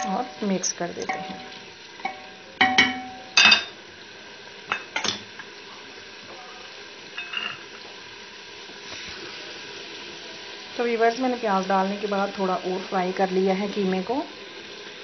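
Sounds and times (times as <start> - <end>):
meat and onions sizzling: 0.0 - 15.0.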